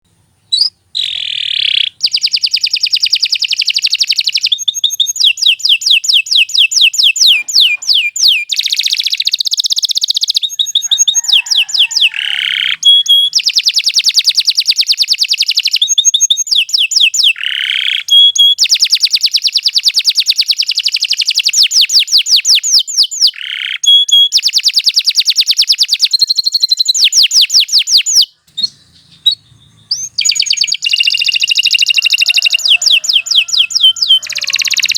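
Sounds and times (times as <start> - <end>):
canary singing: 0.4 - 34.9.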